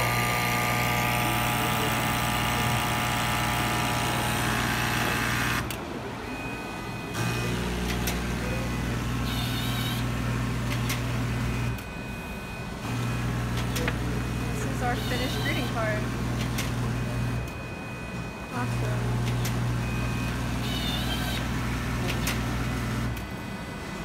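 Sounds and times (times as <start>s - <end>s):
cutter motor hum and whir: 0.0s - 24.0s.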